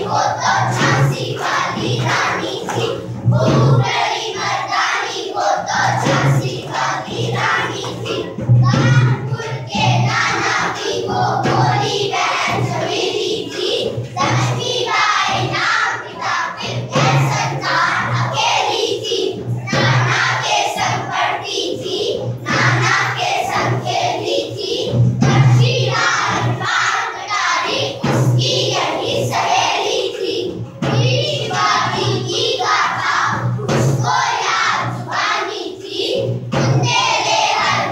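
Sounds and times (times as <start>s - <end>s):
children singing together: 0.0s - 37.9s.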